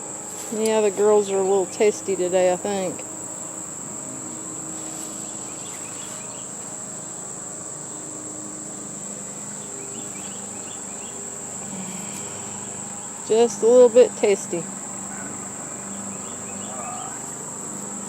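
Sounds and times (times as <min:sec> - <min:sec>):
high-pitched insect trill: 0:00.0 - 0:18.0
honeybees buzzing: 0:00.0 - 0:18.0.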